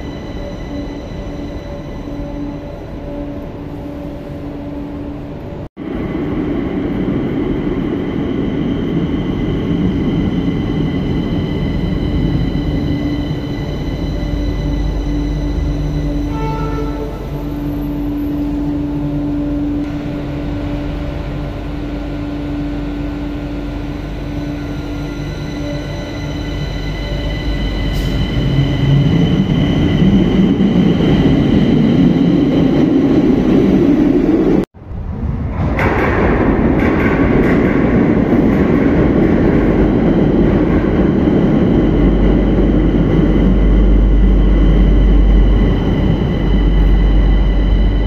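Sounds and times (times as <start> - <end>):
deep train rumble: 0.0 - 48.0
metro train motor hum: 0.0 - 48.0.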